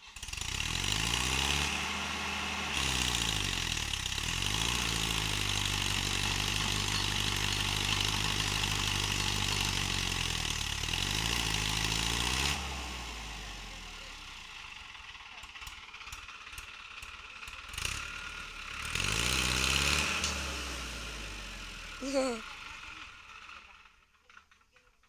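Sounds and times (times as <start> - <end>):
tractor diesel engine revving: 0.0 - 24.1.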